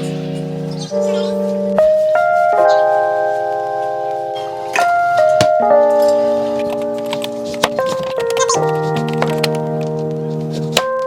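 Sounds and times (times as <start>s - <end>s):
sustained keyboard chords: 0.0s - 11.0s.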